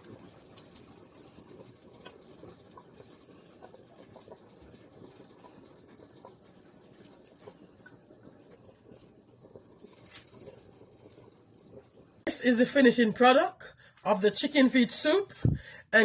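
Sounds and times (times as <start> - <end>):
soup simmering with ticks and pops: 0.0 - 14.1
low steady hiss: 0.0 - 16.0.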